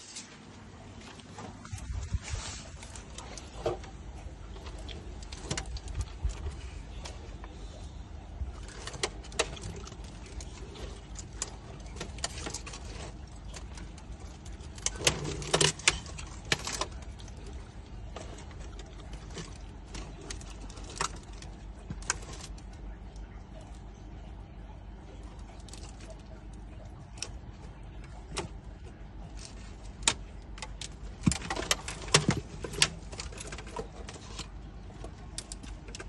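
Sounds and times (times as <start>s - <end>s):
tortoise crunching food: 0.0s - 36.0s.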